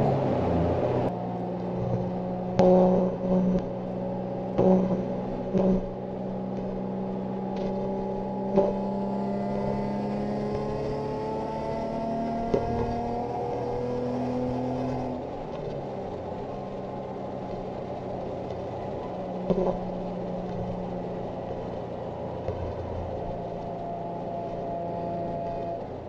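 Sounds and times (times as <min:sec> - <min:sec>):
car engine drone in cabin: 0:00.0 - 0:26.0
road noise: 0:00.0 - 0:26.0.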